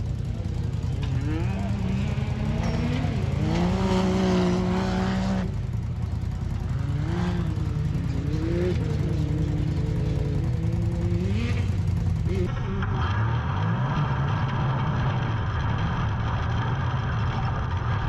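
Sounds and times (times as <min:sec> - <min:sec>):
race vehicle engine revving: 0:00.0 - 0:18.0.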